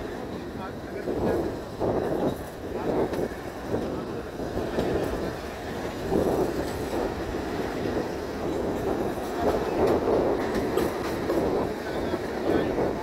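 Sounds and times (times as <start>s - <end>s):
train wheels on track: 0.0s - 13.0s.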